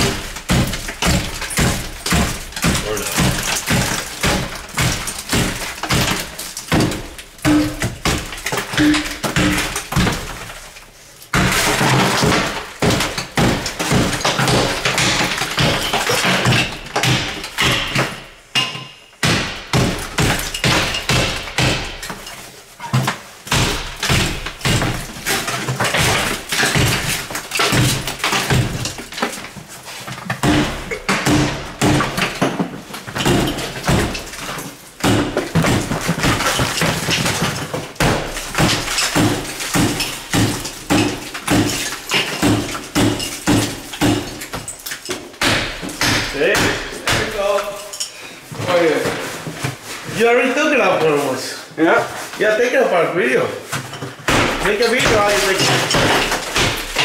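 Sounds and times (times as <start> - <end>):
plaster crumbling: 0.0 - 18.3, 19.4 - 50.2, 53.7 - 57.0.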